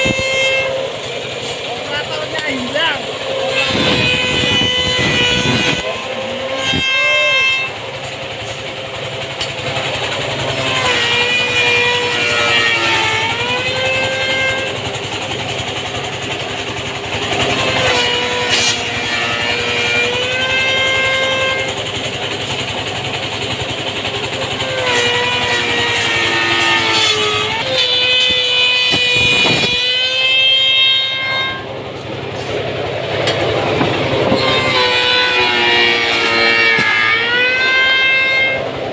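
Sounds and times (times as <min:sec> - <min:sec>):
woodworking machine motor humming: 0:00.0 - 0:38.9.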